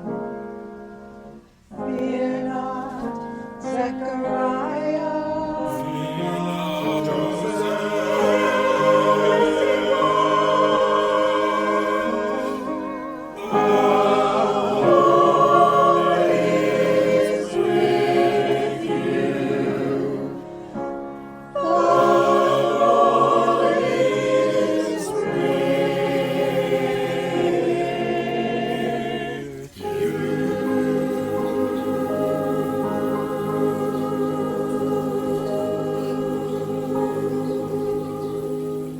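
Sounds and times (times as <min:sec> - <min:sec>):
choir singing: 0:01.7 - 0:38.9.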